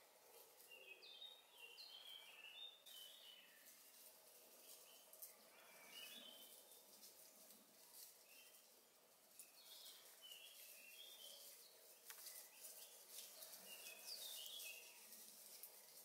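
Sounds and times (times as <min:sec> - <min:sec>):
faint rustles and ticks: 0:00.0 - 0:00.9, 0:02.9 - 0:16.0
faint birdsong chirping: 0:00.0 - 0:16.0.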